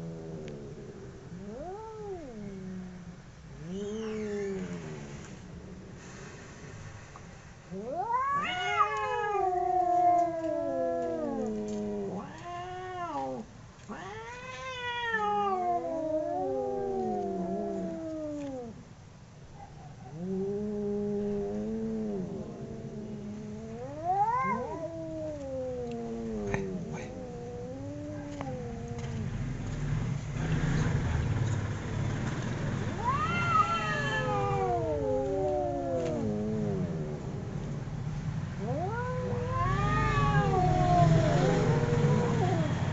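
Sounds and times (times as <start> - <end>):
cats caterwauling: 0.0 - 6.0, 7.7 - 18.8, 19.6 - 29.4, 32.9 - 37.8, 38.5 - 42.9.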